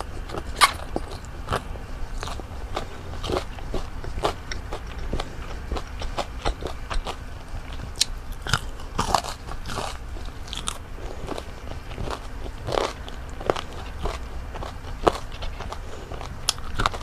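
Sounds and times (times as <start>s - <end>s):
crunching fried food: 0.0s - 17.0s.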